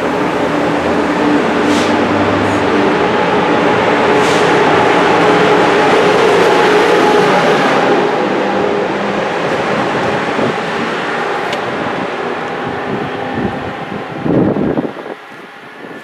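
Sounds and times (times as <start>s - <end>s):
rush of wheels and air: 0.0s - 16.0s
train passing at speed: 0.0s - 16.0s.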